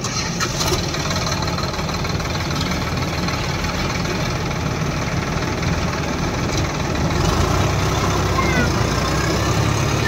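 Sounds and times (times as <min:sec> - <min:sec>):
backhoe diesel engine working: 0:00.0 - 0:10.0
tractor diesel engine idling: 0:00.0 - 0:10.0.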